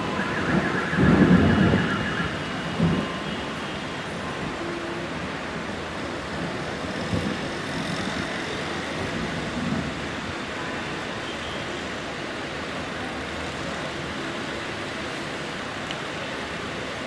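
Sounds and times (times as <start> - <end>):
heavy rain: 0.0 - 17.0
street traffic: 0.0 - 17.0.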